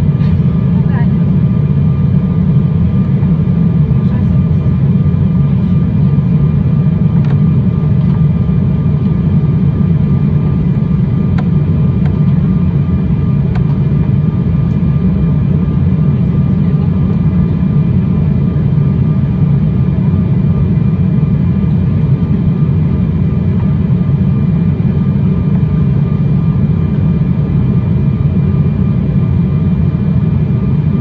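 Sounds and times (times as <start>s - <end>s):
airliner cabin rumble: 0.0s - 31.0s.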